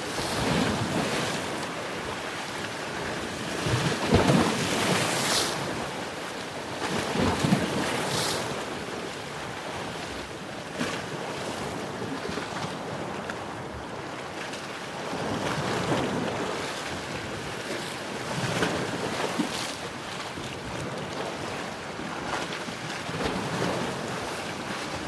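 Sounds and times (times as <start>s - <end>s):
waves washing: 0.0s - 25.0s
wind: 0.0s - 25.0s.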